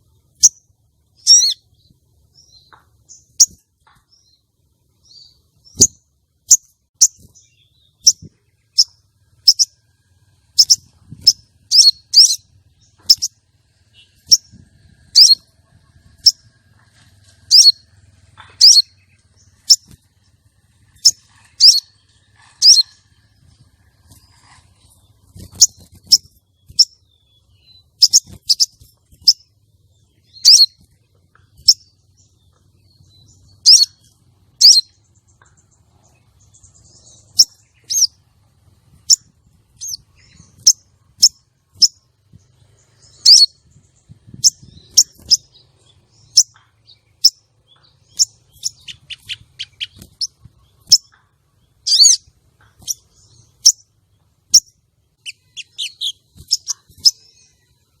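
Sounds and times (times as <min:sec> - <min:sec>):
bird high chirps: 0:00.0 - 0:58.0.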